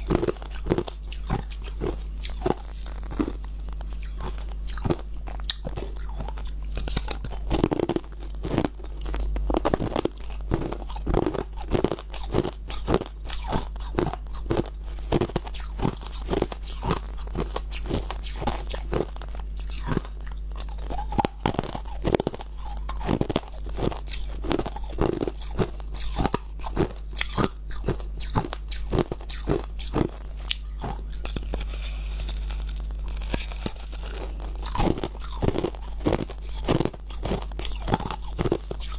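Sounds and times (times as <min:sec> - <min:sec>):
chewing crunchy ice: 0:00.0 - 0:38.9
low steady hum: 0:00.0 - 0:38.9.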